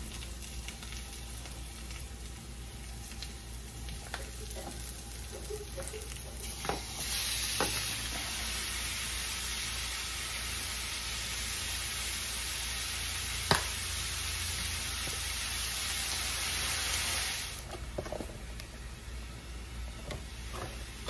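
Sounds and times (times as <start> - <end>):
shrimp and onions sizzling: 0.0 - 21.0.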